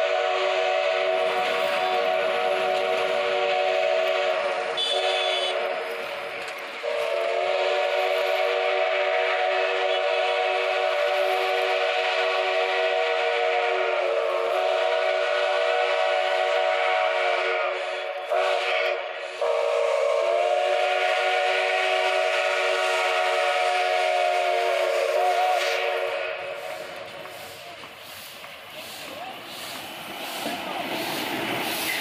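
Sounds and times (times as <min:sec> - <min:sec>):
steam locomotive whistle blasts: 0:00.0 - 0:32.0.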